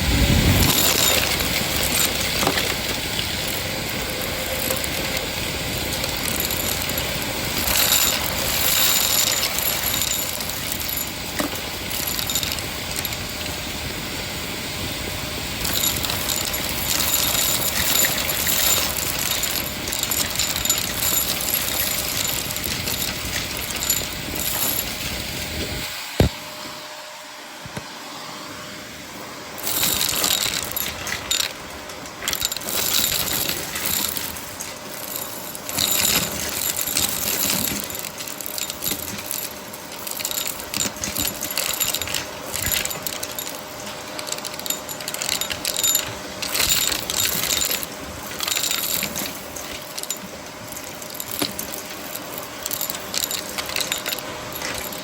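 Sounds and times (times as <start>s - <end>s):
debris rattling up hose: 0.0s - 26.3s, 29.5s - 55.0s
vacuum cleaner running: 0.0s - 55.0s.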